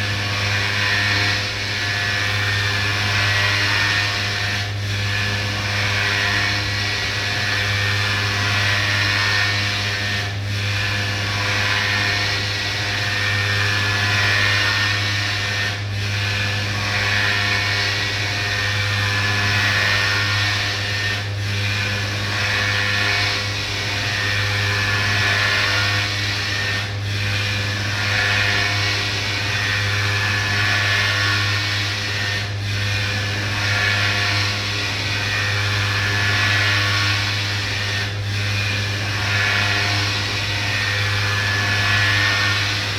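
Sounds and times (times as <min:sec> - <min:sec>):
milling machine spindle whine: 0:00.0 - 0:42.9.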